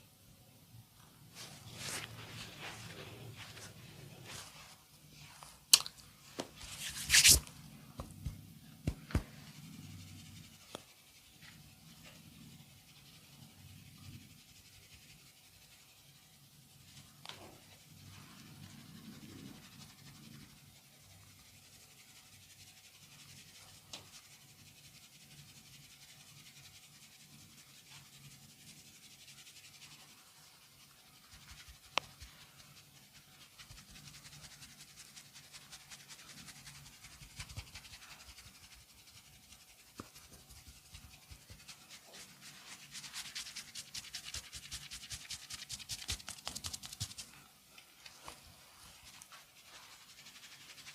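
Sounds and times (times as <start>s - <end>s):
hands scratching and rubbing: 1.1s - 50.9s.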